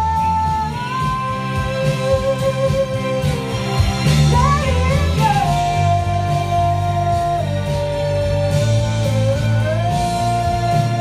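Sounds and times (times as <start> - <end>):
recorded backing track: 0.0 - 11.0
woman singing a ballad: 0.0 - 11.0.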